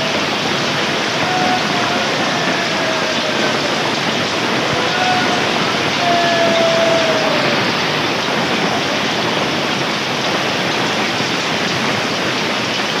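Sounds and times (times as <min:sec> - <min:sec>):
heavy rain and hail pelting: 0:00.0 - 0:13.0.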